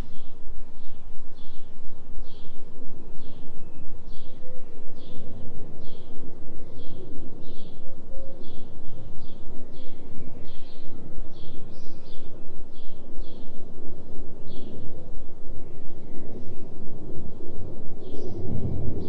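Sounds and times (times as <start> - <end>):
bird chirping: 0.0 - 16.8
pulsing low drone: 0.0 - 19.0.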